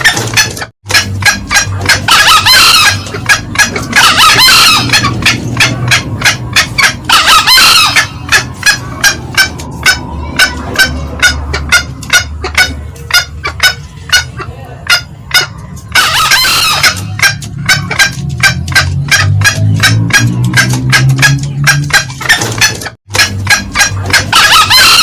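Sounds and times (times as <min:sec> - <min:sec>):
junglefowl cackling: 0:00.0 - 0:25.0
junglefowl crowing: 0:00.0 - 0:25.0.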